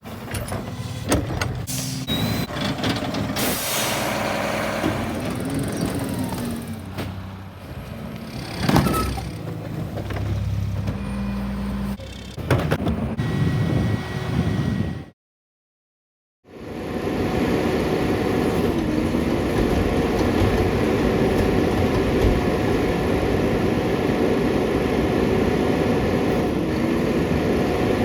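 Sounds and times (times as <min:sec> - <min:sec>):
garbage truck engine running: 0:00.0 - 0:14.9, 0:17.0 - 0:28.0.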